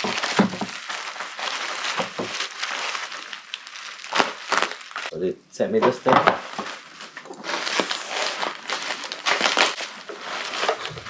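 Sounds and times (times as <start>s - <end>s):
packaging crinkling and rustling: 0.0s - 5.2s, 5.9s - 11.0s.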